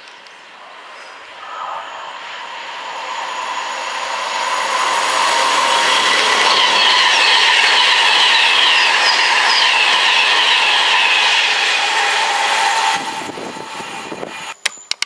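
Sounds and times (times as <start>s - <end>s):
train passing at speed: 0.0s - 14.6s.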